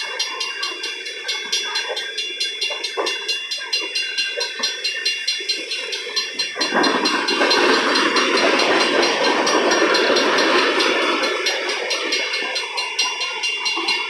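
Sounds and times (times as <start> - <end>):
train wheels clicking over rails: 0.0 - 14.0.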